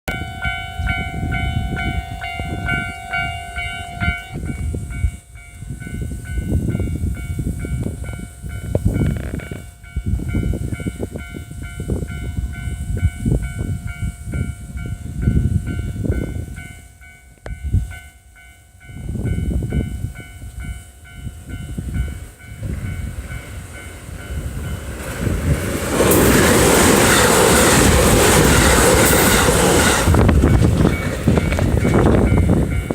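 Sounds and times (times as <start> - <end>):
level-crossing warning bell: 0.1 - 32.9
train rumbling and wheels clattering: 0.1 - 32.9.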